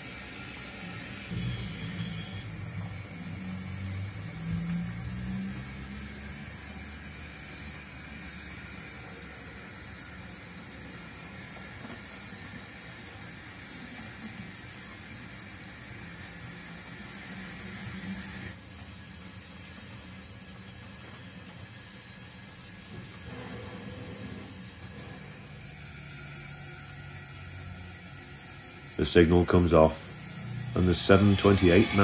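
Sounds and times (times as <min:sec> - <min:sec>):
model train rumbling: 0:00.0 - 0:32.0
steady hiss: 0:00.0 - 0:32.0.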